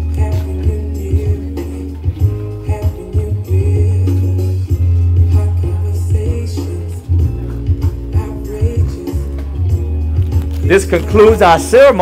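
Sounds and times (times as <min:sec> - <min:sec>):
person singing: 0:00.0 - 0:10.3
song with strong bass line: 0:00.0 - 0:12.0.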